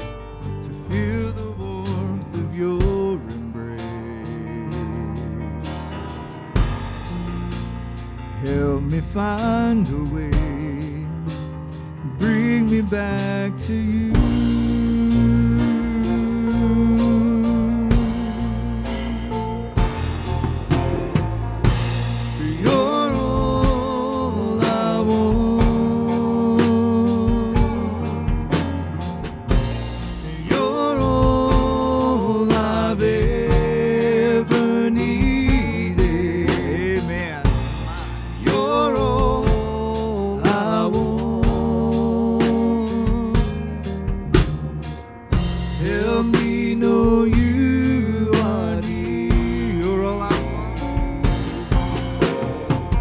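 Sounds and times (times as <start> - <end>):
live worship band playing: 0.0 - 53.0.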